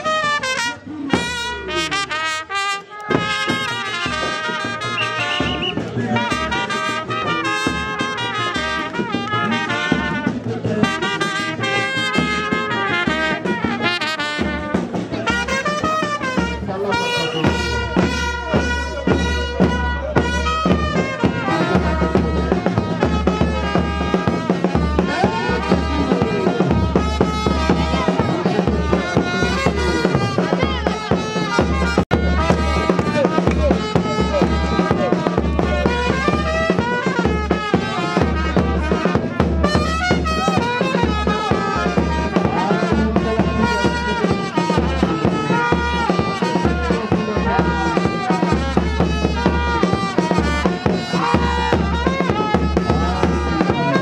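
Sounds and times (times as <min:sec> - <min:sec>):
horn melody: 0:00.0 - 0:54.0.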